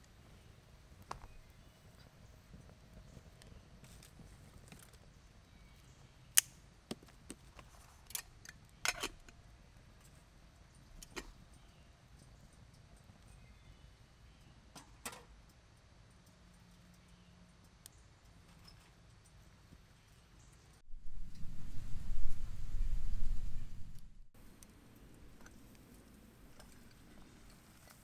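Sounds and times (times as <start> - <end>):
twig fire crackling and popping: 0.0 - 18.5, 19.2 - 28.0.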